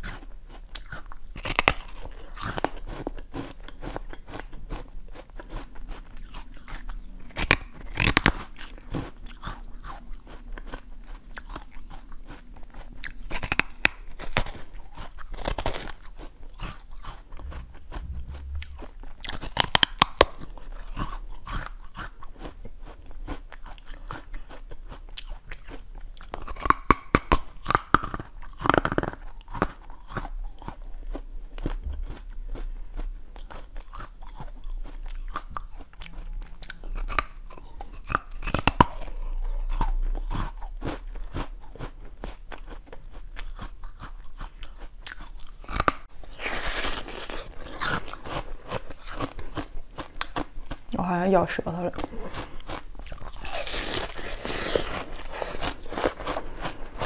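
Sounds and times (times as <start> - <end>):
crunchy biting and chewing: 0.0 - 51.0, 51.9 - 57.0.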